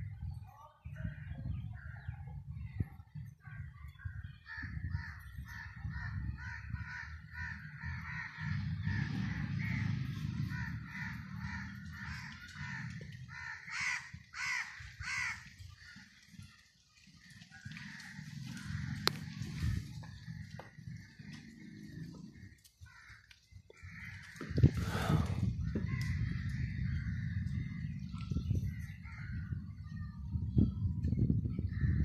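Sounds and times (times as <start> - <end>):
birds calling: 0.0 - 32.0
low background rumble: 1.1 - 16.0, 17.5 - 32.0.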